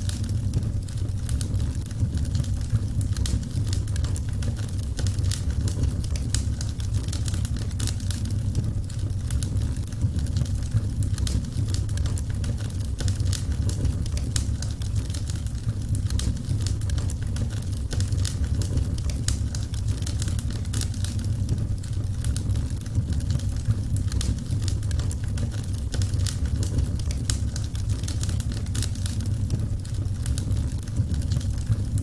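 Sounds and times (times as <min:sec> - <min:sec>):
low steady rumble: 0:00.0 - 0:32.0
wood fire crackling: 0:00.0 - 0:32.0.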